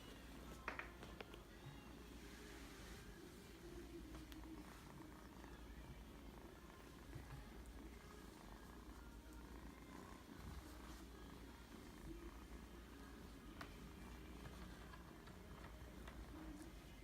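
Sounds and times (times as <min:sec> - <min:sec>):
kitten purring: 0:00.4 - 0:17.0.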